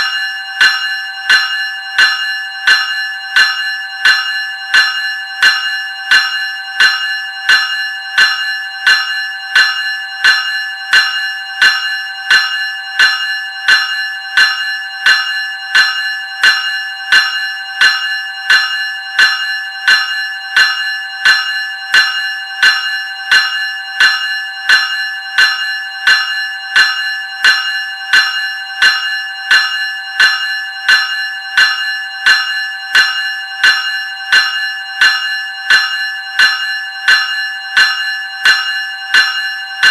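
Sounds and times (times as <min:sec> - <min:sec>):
electric bell ringing: 0:00.0 - 0:39.9.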